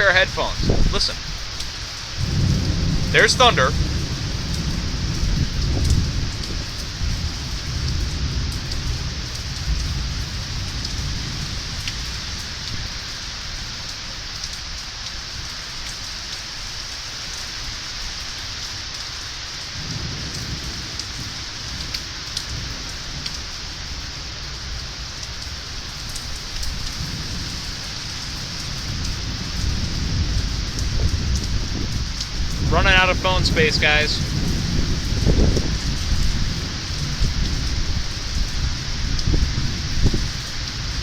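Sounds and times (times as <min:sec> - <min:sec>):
low rumbling thunder: 0:00.0 - 0:13.8, 0:19.7 - 0:41.0
steady rain: 0:00.0 - 0:41.0.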